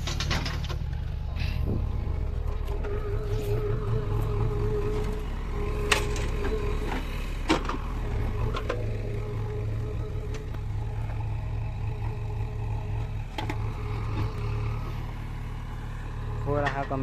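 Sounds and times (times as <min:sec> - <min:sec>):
diesel machinery droning: 0:00.0 - 0:17.0.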